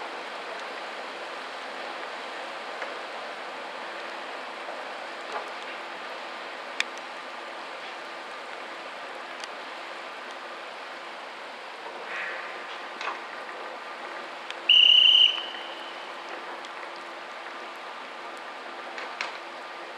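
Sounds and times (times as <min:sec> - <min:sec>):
heavy rain hissing: 0:00.0 - 0:19.9.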